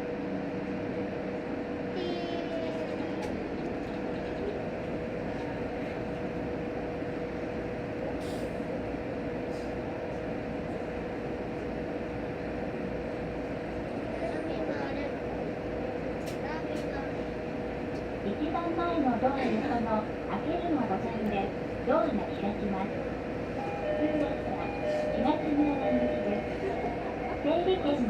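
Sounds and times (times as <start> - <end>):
wheels rumbling on rails: 2.0 - 28.0.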